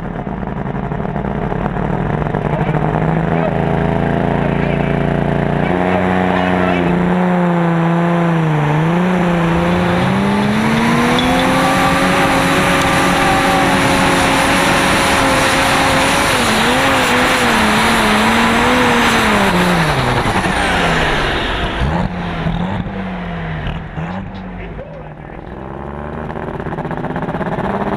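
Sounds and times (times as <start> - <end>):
pulling tractor engine at full throttle: 0.0 - 27.9.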